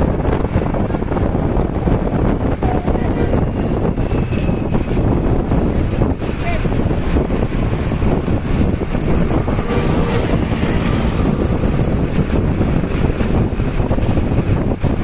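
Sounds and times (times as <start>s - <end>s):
bus engine running hard: 0.0s - 15.0s
wind buffeting microphone: 0.0s - 15.0s.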